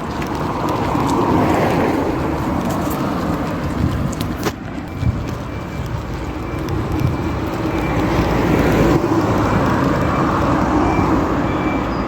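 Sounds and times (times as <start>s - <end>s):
car passing with tyre noise: 0.0s - 12.0s.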